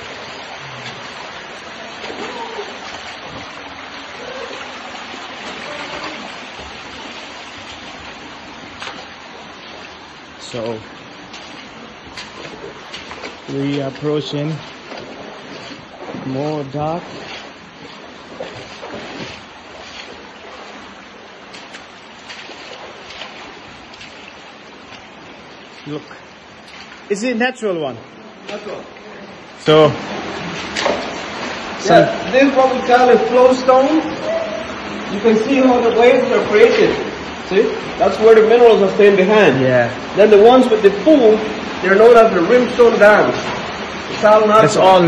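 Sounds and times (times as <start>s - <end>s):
small splashes of wading: 0.0s - 27.4s, 28.0s - 45.0s
stream rushing: 0.0s - 45.0s.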